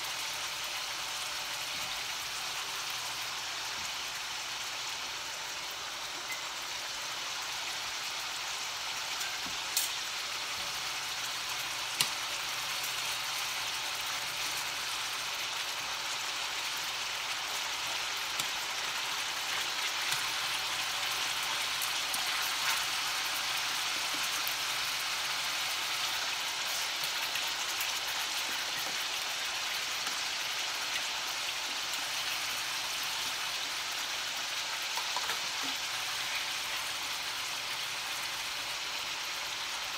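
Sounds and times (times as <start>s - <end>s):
beef sizzling in a skillet: 0.0s - 39.9s.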